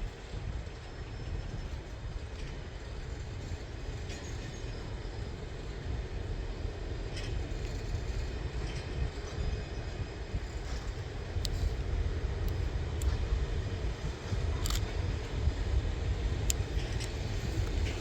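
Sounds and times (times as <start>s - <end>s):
train rumbling by: 0.0s - 18.0s.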